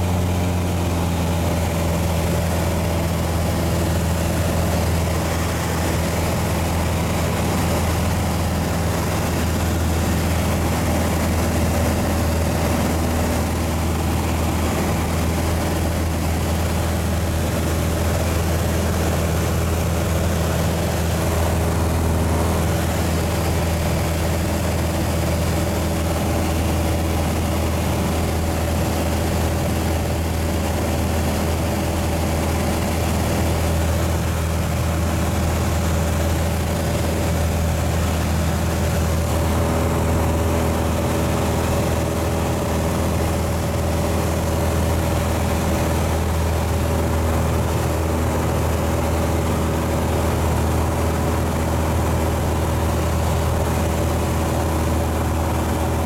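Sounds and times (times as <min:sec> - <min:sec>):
aircraft engine droning in cabin: 0:00.0 - 0:56.0.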